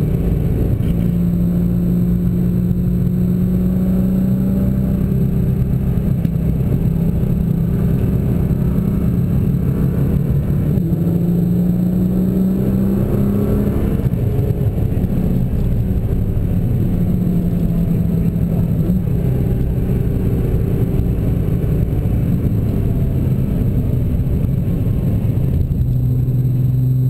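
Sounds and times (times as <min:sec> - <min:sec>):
car engine from inside cabin: 0:00.0 - 0:27.0.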